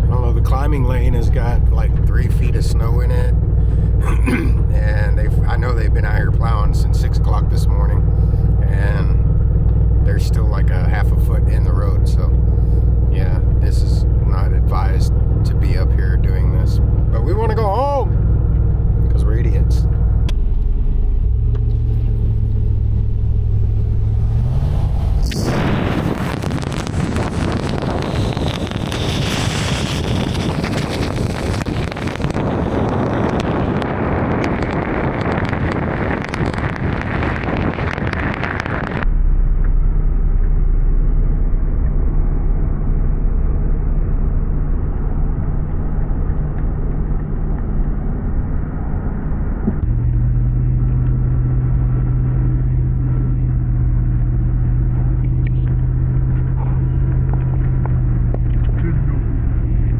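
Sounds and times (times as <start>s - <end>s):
dull engine drone: 0.0s - 59.9s
truck cab road noise: 0.0s - 59.9s.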